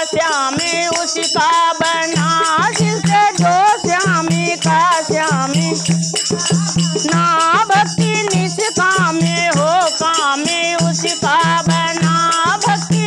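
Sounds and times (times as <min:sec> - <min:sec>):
hand drum beat: 0:00.0 - 0:13.0
hand-held rattle shaken: 0:00.0 - 0:13.0
women singing devotional song: 0:00.0 - 0:13.0.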